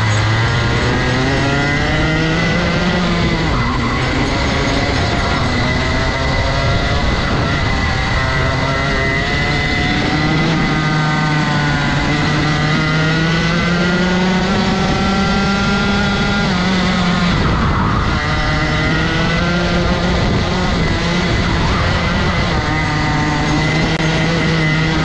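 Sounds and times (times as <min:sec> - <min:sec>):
kart engine revving high: 0:00.0 - 0:25.0.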